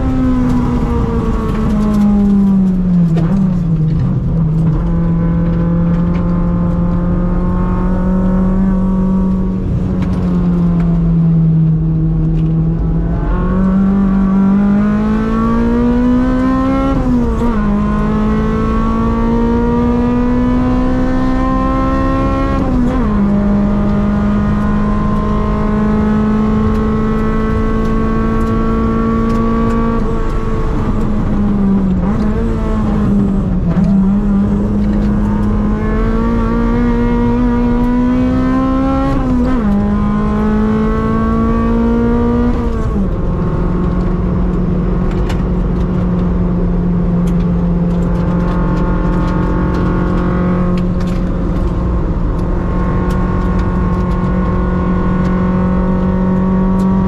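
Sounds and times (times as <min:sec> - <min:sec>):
car engine revving at full throttle: 0:00.0 - 0:57.0.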